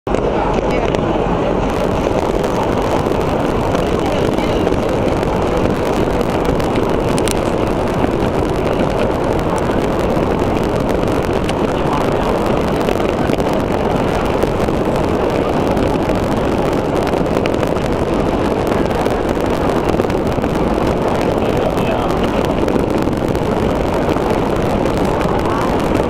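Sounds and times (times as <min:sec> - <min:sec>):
crowd voices: 0:00.1 - 0:26.0
faint crackling: 0:00.1 - 0:26.0
fireworks rumbling roar: 0:00.1 - 0:26.0.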